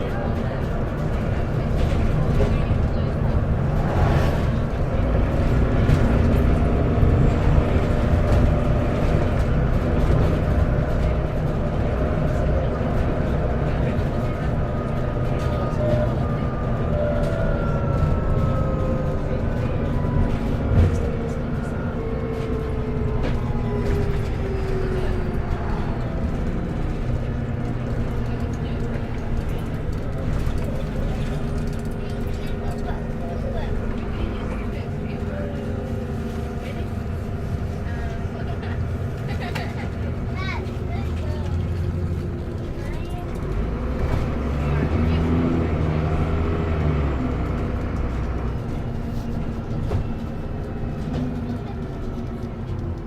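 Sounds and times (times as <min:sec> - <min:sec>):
bus engine rumbling: 0:00.0 - 0:53.0.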